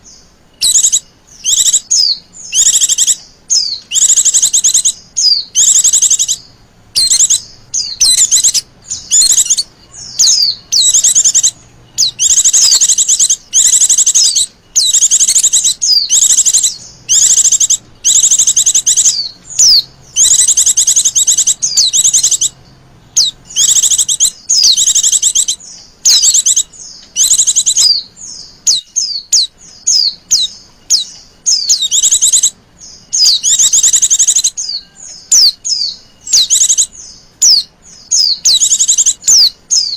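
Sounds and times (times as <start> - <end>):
bird calling with buzzy trills: 0.0 - 39.9
bird chirping: 0.0 - 39.9.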